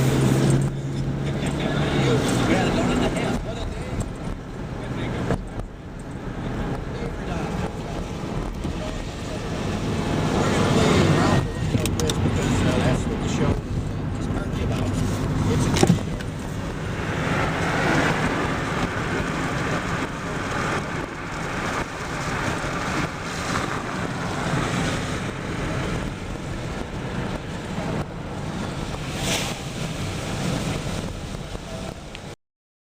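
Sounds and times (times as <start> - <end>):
outdoor rushing noise with rumble: 0.0 - 32.4.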